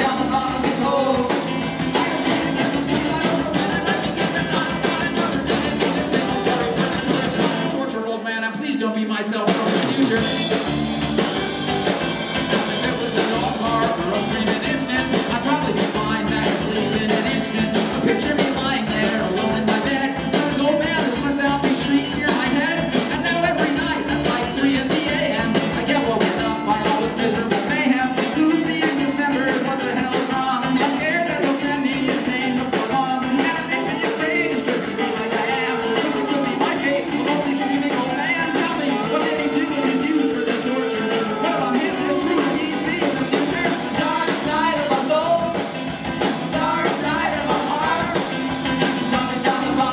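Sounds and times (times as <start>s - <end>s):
live rock band playing: 0.0s - 8.2s, 9.3s - 49.9s
person singing: 0.0s - 11.5s, 12.5s - 49.9s.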